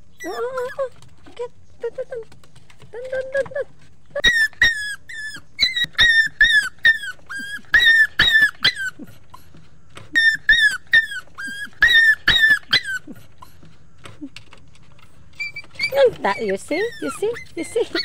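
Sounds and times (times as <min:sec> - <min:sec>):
puppy whining: 0:00.0 - 0:02.0, 0:02.9 - 0:14.6, 0:15.2 - 0:18.0.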